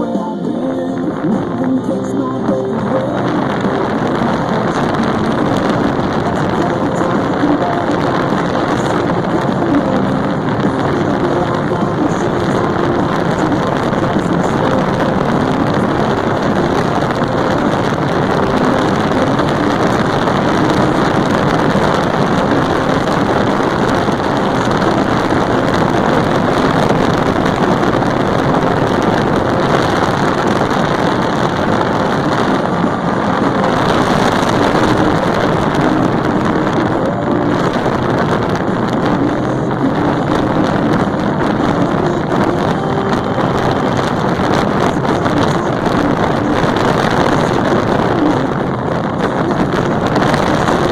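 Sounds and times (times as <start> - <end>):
wind noise on microphone: 0.0 - 50.9
motorcycle engine running: 1.0 - 50.9.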